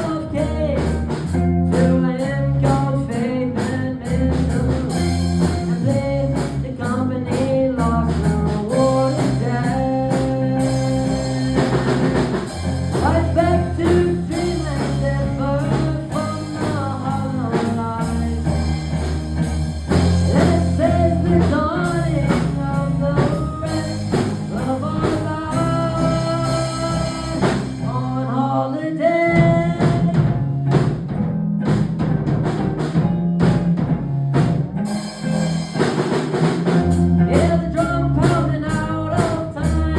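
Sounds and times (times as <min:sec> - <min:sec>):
person singing: 0:00.0 - 0:19.1, 0:19.9 - 0:30.7, 0:36.8 - 0:39.9
band playing blues-rock: 0:00.0 - 0:39.9.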